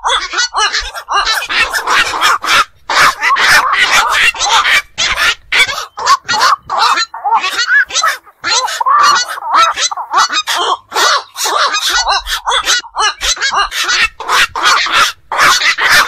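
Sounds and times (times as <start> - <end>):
herons giving harsh calls: 0.0 - 16.0.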